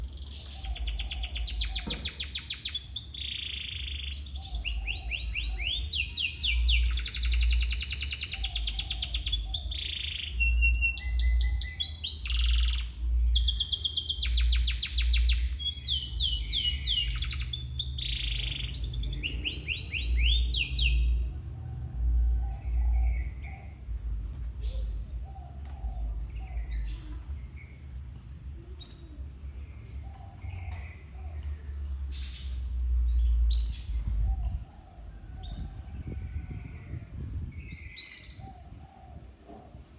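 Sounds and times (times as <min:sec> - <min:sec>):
canary singing: 0:00.0 - 0:39.1.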